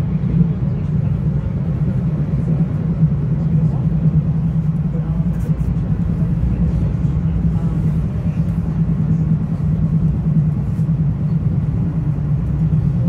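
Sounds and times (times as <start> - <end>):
constant low hum: 0.0 - 13.0
train wheels rumbling on track: 0.0 - 13.0.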